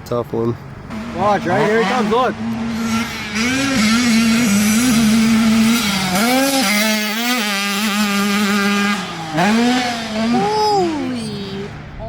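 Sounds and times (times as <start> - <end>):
dirt bike engine revving: 0.8 - 11.8.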